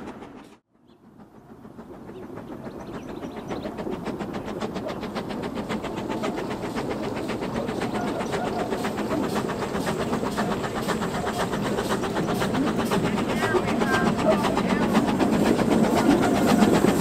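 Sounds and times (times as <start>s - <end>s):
steam locomotive chugging: 0.0s - 17.0s.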